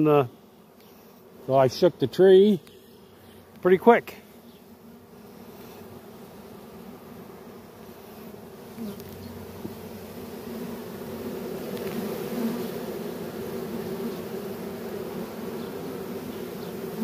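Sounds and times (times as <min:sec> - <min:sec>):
honeybee swarm buzzing: 0:00.0 - 0:17.0.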